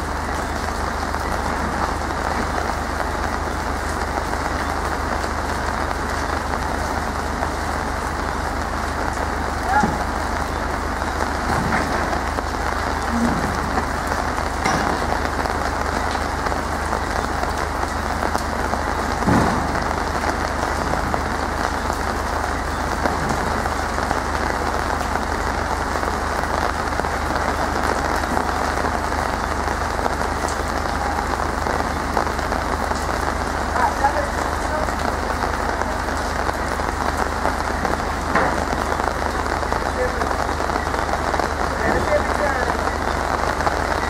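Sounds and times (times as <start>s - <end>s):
rain falling on ground: 0.0s - 44.0s.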